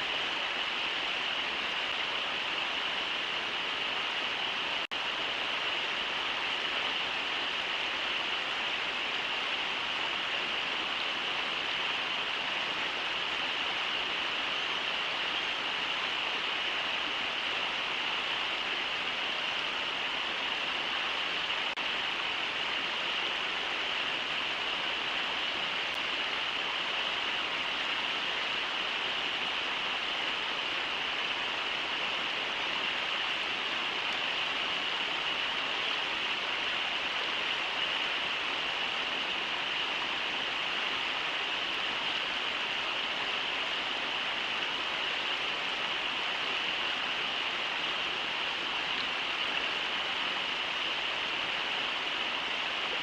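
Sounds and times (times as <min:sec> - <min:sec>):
river water rushing over rapids: 0:00.0 - 0:53.0.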